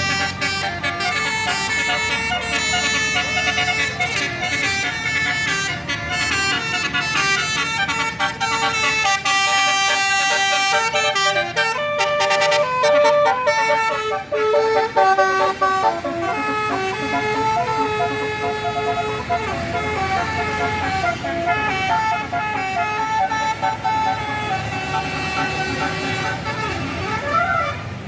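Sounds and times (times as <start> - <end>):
bus horn playing a tune: 0.0 - 28.0.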